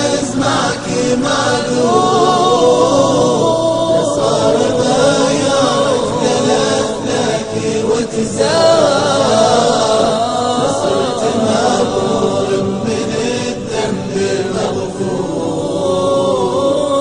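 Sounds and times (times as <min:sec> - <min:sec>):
low vocal drone: 0:00.0 - 0:17.0
voices singing in chorus: 0:00.0 - 0:17.0.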